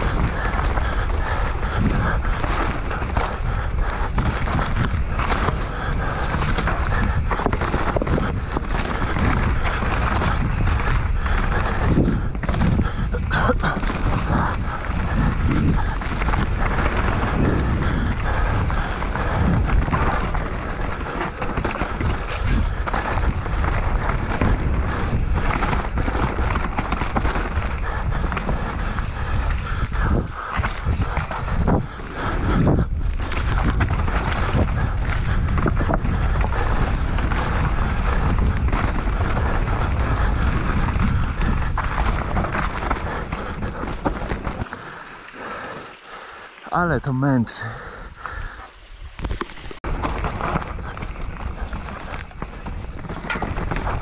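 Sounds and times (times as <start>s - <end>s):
tyres rolling over dirt and rocks: 0.0s - 46.7s, 49.2s - 54.0s
bike rattling: 0.0s - 54.0s
wind buffeting microphone: 0.0s - 54.0s.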